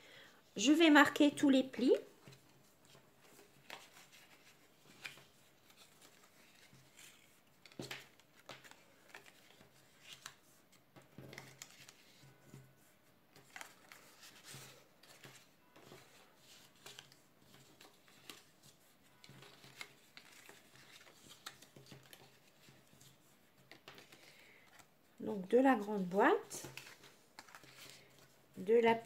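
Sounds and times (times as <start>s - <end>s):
cardstock rustling and crackling: 2.2s - 12.3s, 13.3s - 24.9s, 25.5s - 29.0s.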